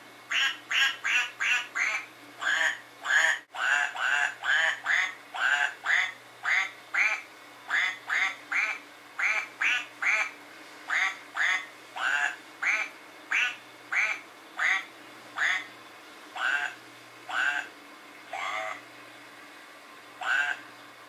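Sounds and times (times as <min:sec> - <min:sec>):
toy duck quacking: 0:00.3 - 0:10.3, 0:10.9 - 0:15.7, 0:16.4 - 0:17.7, 0:18.4 - 0:18.8, 0:20.2 - 0:20.6.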